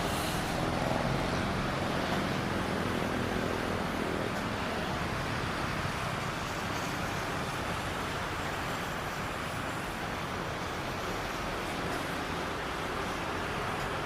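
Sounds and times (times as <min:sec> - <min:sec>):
steady rushing vehicle noise: 0:00.0 - 0:14.0.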